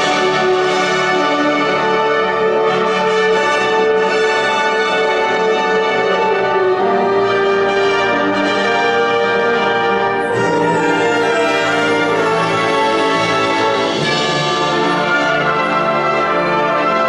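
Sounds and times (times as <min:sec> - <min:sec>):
wind ensemble playing chords: 0:00.0 - 0:17.0.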